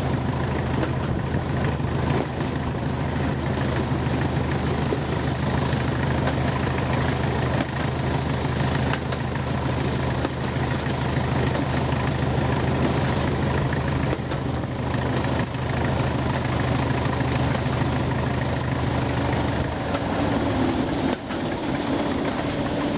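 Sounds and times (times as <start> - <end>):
diesel locomotive engine: 0.0 - 22.9.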